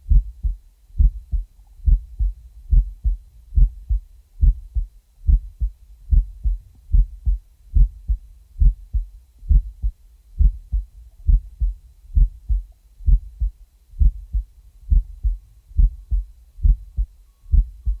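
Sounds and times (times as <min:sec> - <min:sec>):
heartbeat thumps: 0:00.0 - 0:18.0.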